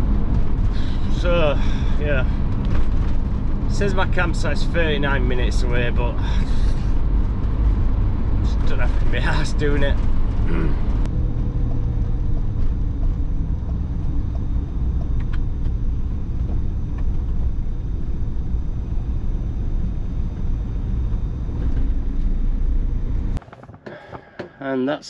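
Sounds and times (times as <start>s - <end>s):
engine and tyre rumble: 0.0s - 23.8s
faint steady whine: 0.0s - 25.0s.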